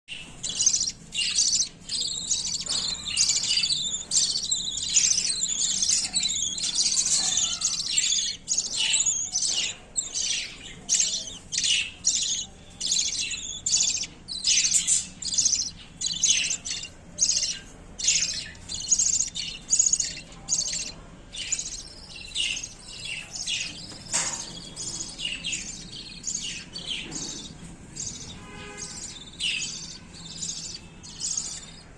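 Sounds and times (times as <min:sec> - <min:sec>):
budgerigars chirping: 0:00.1 - 0:31.9.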